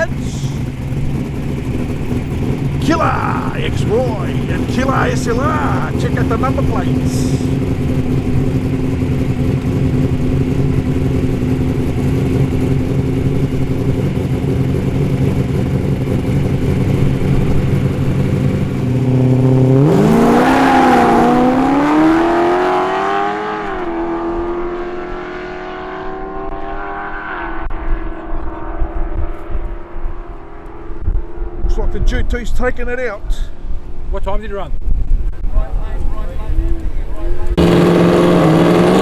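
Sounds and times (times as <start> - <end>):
muscle car engines revving: 0.0 - 32.2, 37.1 - 39.0.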